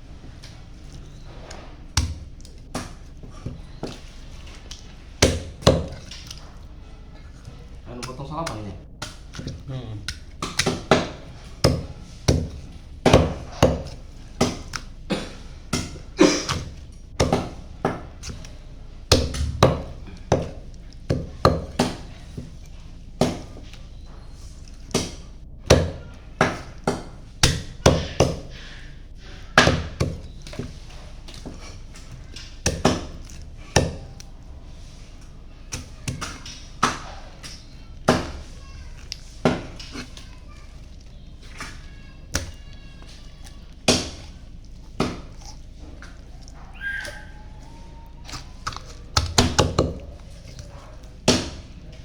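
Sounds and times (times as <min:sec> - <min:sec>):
knife chopping chicken: 0:00.5 - 0:52.0.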